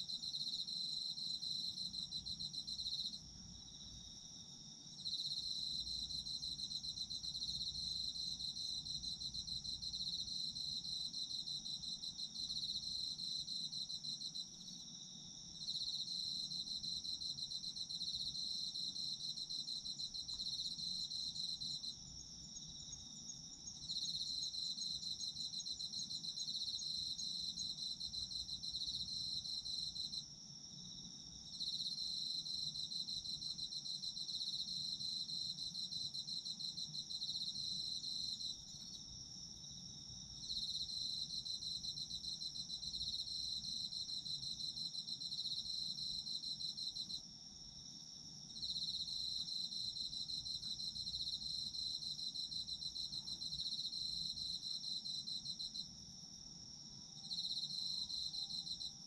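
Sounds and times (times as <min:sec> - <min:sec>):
high steady cricket trill: 0:00.0 - 0:59.0.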